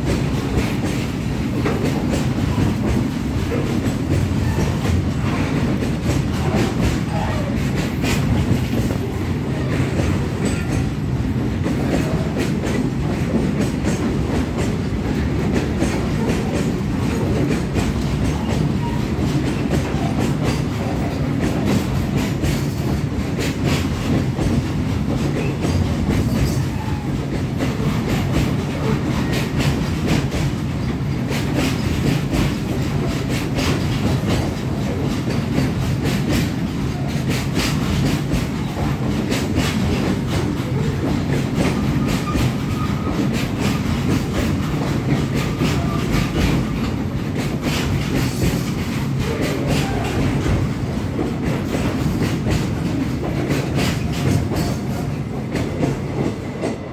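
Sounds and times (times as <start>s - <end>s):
freight train rumbling: 0.0s - 56.9s.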